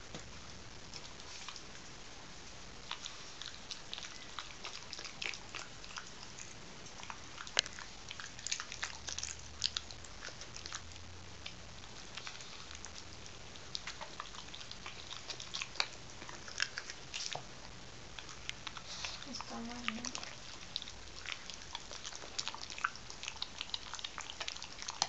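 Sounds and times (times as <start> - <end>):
puppy gnawing a bone: 0.0 - 25.0.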